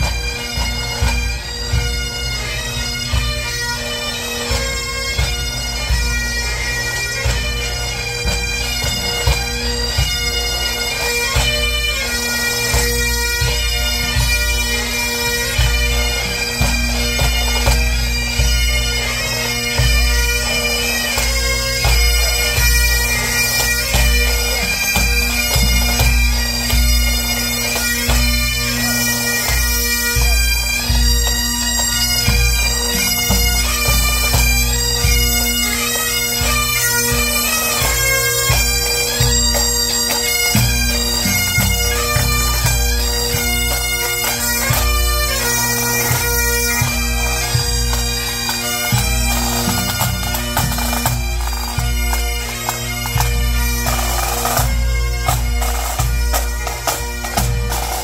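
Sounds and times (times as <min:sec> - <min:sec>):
bagpipe band playing march: 0:00.0 - 0:58.0.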